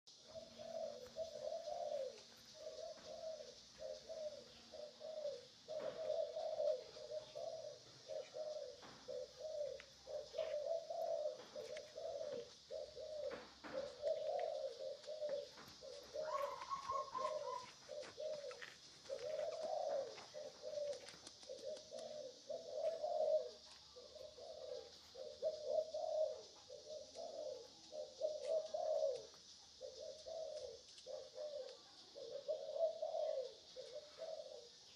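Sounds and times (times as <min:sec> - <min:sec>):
bird cooing: 0:00.1 - 0:34.9
steady high hiss: 0:00.2 - 0:34.9.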